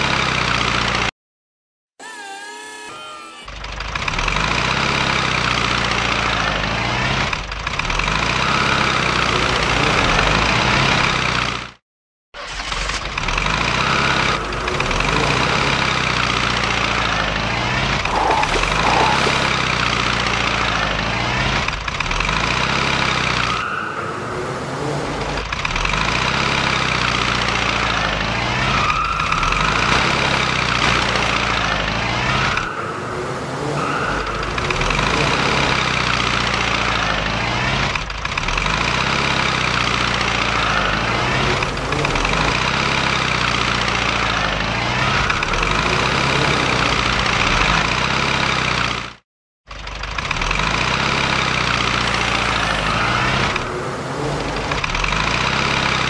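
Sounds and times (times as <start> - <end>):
cartoon vehicle engine: 2.0 - 11.8, 12.4 - 56.0.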